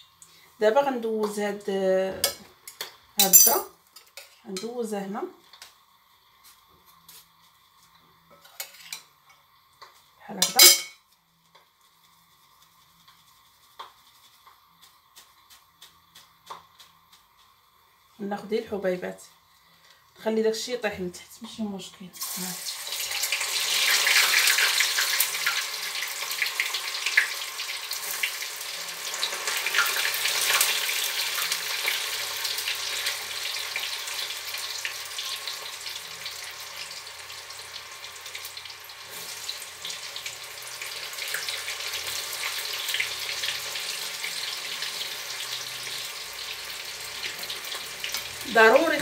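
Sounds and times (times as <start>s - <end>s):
corn deep-frying in oil: 2.0s - 20.1s, 22.2s - 49.0s.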